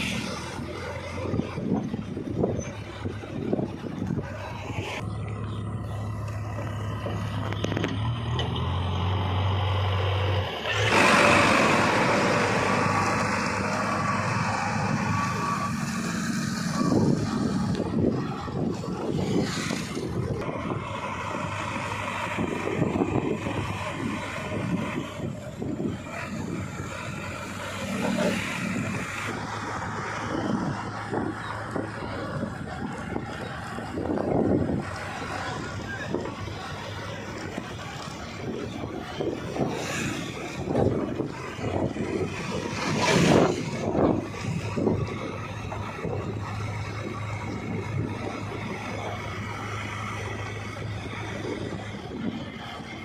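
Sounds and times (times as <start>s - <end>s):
diesel engine hum: 0.0s - 53.0s
harsh rush of machine noise: 10.4s - 53.0s.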